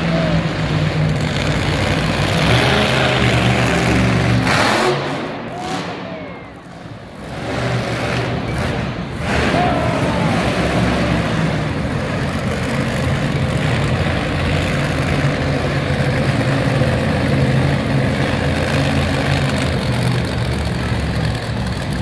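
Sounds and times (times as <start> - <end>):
truck engine running steadily: 0.0 - 22.0.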